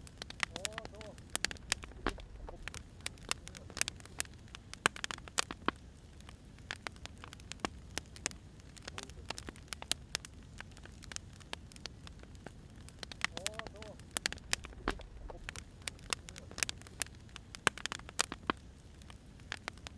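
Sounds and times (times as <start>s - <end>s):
firewood crackling and popping: 0.0s - 19.9s
low rumble of fire: 0.0s - 19.9s.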